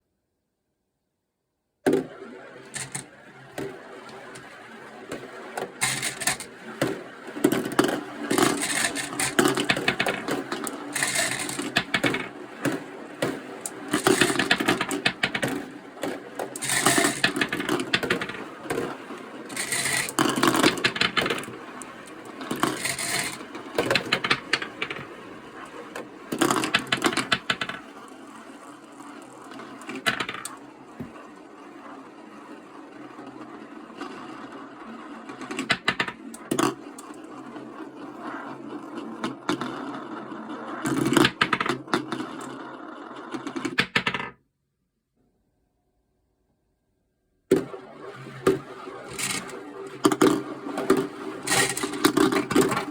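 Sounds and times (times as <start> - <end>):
marbles rolling down plastic track: 1.9 - 44.4, 47.5 - 52.9.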